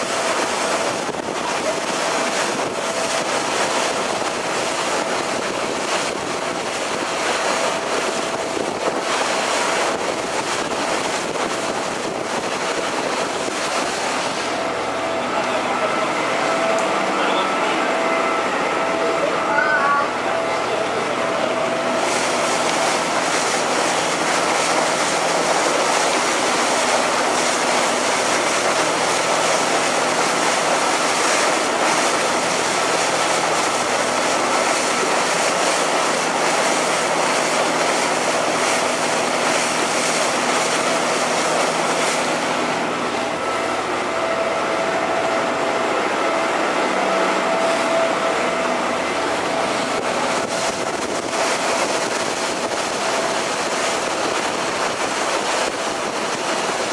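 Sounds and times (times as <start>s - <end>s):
boat engine running: 0.0s - 56.9s
steady whine: 0.0s - 56.9s
water and wind rushing: 0.0s - 56.9s.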